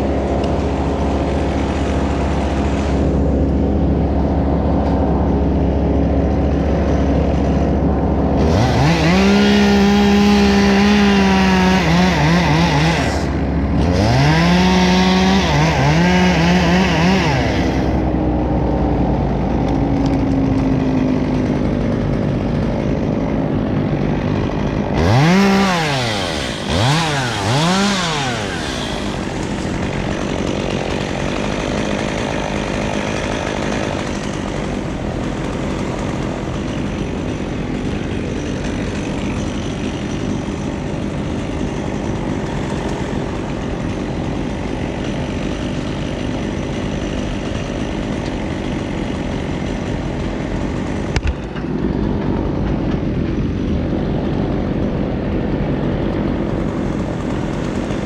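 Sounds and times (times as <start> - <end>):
chainsaw revving: 0.0 - 58.0
low engine drone: 0.0 - 58.0.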